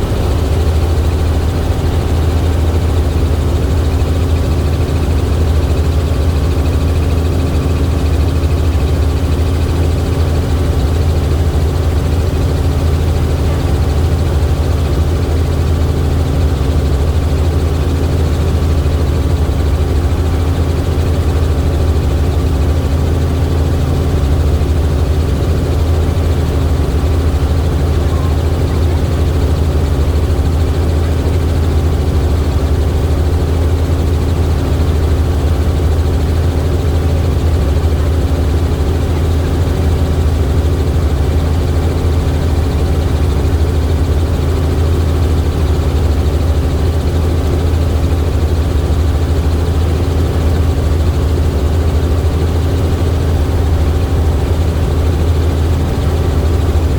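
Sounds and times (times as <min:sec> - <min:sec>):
helicopter rotor and engine drone: 0:00.0 - 0:56.9.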